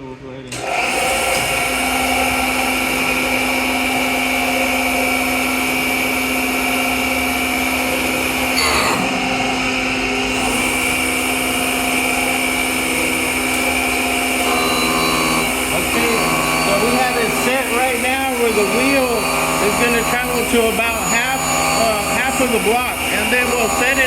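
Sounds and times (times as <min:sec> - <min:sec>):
grinder motor hum and whine: 0:00.5 - 0:24.0.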